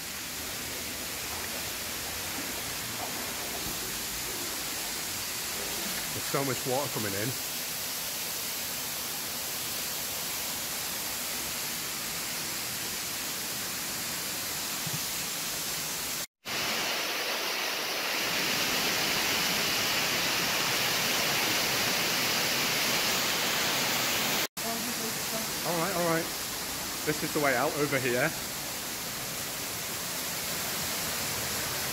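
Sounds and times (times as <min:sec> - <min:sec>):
waterfall rushing: 0:00.0 - 0:12.6, 0:15.8 - 0:31.9.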